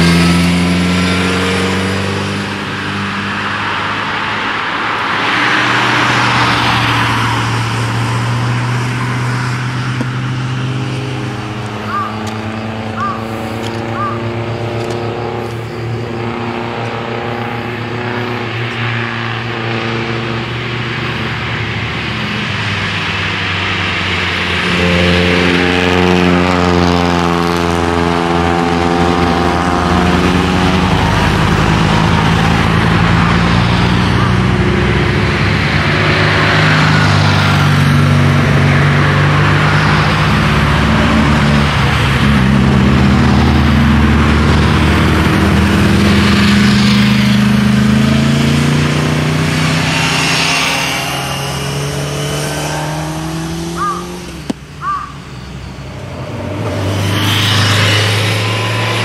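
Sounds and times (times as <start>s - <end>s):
rally car engines accelerating: 0.0s - 59.0s.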